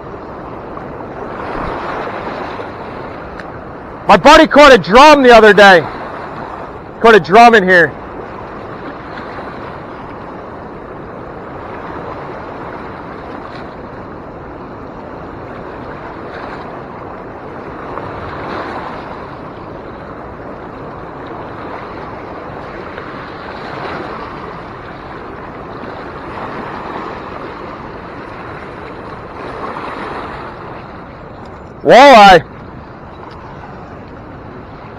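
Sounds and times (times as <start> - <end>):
rushing river water: 0.0 - 34.9.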